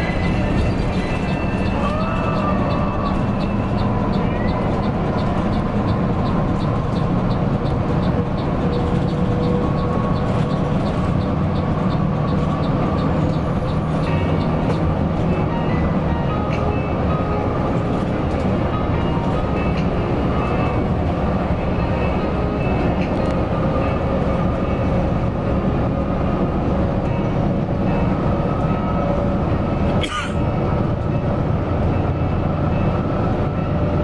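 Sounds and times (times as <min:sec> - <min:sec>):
bus engine drone: 0:00.0 - 0:34.0
road rumble: 0:00.0 - 0:34.0.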